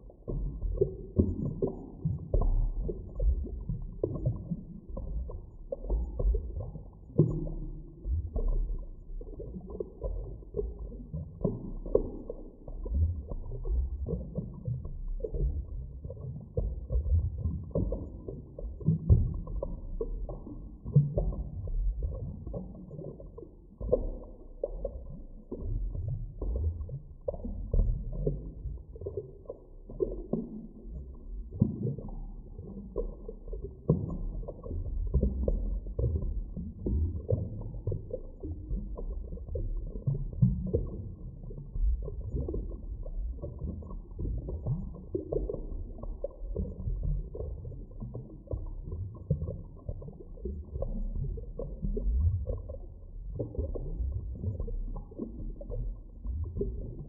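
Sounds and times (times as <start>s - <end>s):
low underwater rumble: 0.0s - 57.0s
soft underwater knocks: 0.2s - 57.0s.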